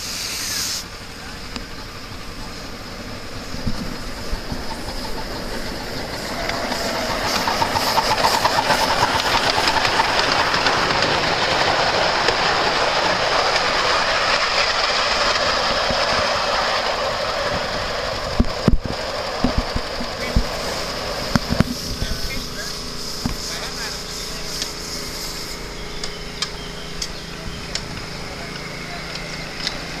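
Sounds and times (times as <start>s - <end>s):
steam hissing: 0.0s - 30.0s
wheels rattling on rails: 0.0s - 30.0s.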